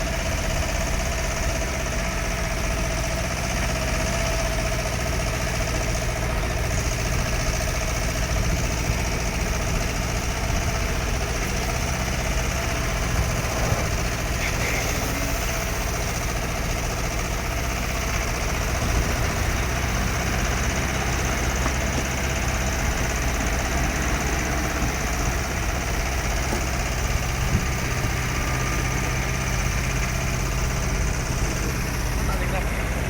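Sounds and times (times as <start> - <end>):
diesel engine running steadily: 0.0 - 33.0.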